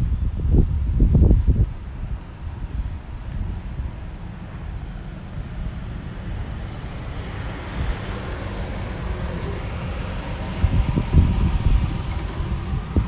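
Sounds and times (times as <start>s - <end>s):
car engine and tyre noise: 0.0s - 13.0s
wind rumble on microphone: 0.0s - 13.0s.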